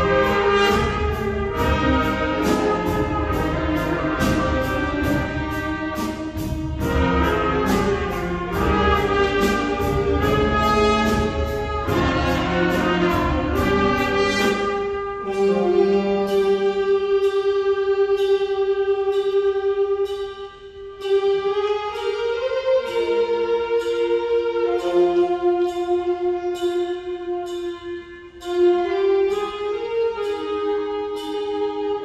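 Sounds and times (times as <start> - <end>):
school wind band playing: 0.0 - 32.0.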